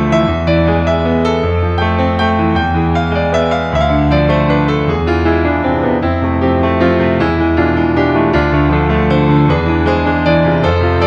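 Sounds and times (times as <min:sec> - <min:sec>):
piano notes: 0:00.0 - 0:11.0.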